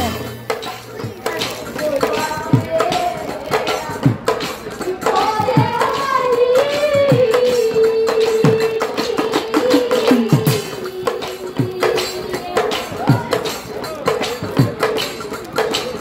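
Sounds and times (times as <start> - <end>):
woman singing: 1.0 - 13.9.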